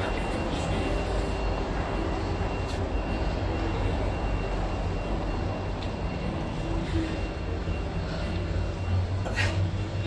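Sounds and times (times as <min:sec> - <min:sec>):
low rumble of road traffic: 0:00.0 - 0:10.0.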